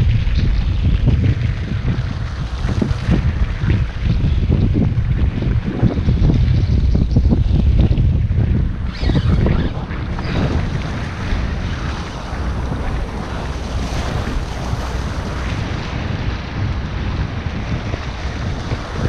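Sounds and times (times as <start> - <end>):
water slapping boat hull: 0.0 - 19.0
wind buffeting microphone: 0.0 - 19.0.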